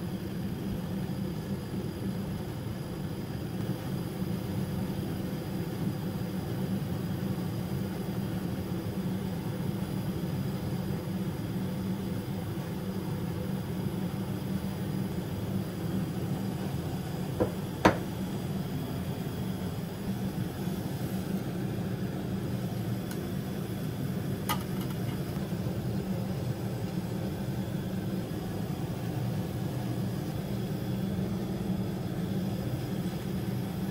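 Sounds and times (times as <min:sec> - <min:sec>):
low background hum: 0:00.0 - 0:33.9.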